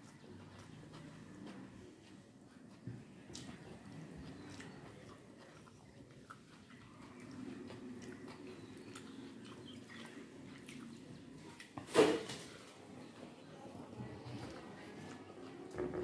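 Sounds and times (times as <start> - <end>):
chewing: 0.0 - 11.9, 12.5 - 16.0.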